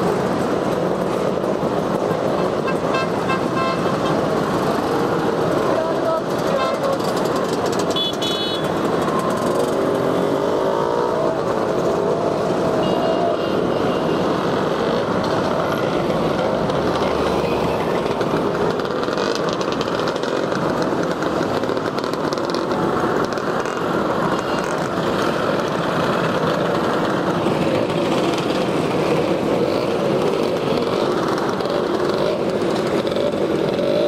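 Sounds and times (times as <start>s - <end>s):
scooter engines buzzing: 0.0s - 34.0s.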